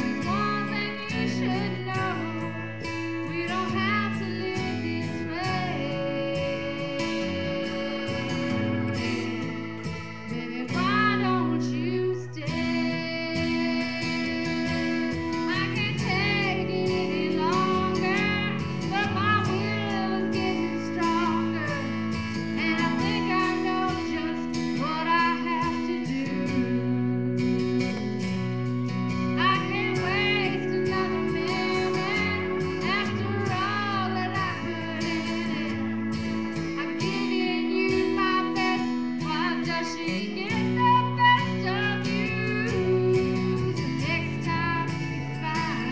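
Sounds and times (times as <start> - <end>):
guitar accompaniment: 0.0 - 45.9
woman singing: 0.0 - 45.9.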